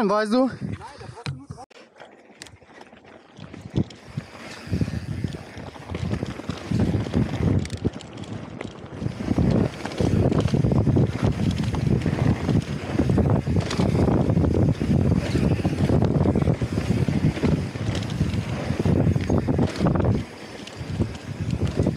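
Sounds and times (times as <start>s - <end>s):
wind buffeting microphone: 0.5s - 1.6s, 2.4s - 21.9s
bike clicks and rattles: 0.7s - 21.9s
bike tyres rumbling on dirt: 1.8s - 21.9s.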